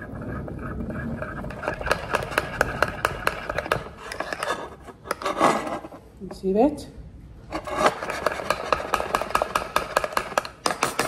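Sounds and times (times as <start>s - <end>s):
spoon scraping ceramic bowl: 0.0s - 6.1s, 7.5s - 10.4s.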